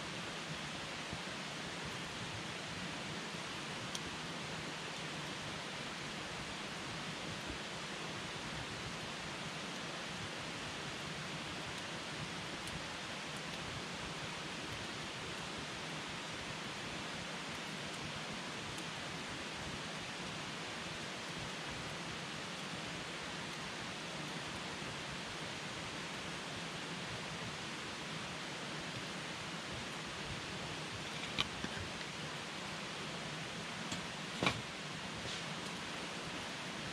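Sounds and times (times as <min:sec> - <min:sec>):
campfire hissing: 0:00.0 - 0:36.9
fire crackles: 0:00.0 - 0:36.9.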